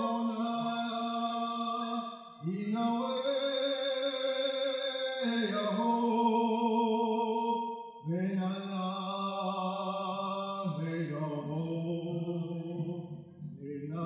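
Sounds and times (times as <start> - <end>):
man singing a chant: 0.0 - 14.0.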